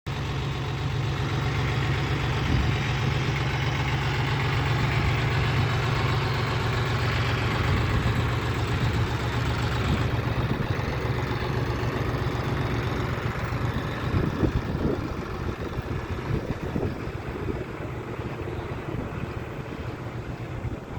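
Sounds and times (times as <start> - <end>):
tractor diesel engine idling: 0.1 - 20.9.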